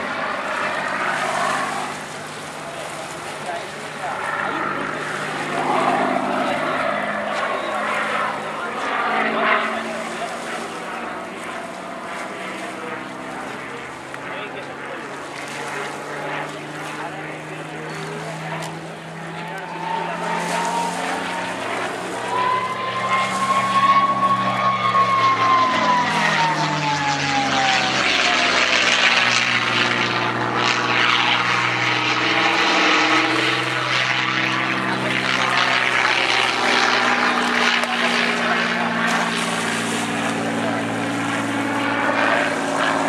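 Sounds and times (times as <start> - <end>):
high whine: 0.0 - 43.0
propeller aircraft engine running hard: 0.0 - 43.0.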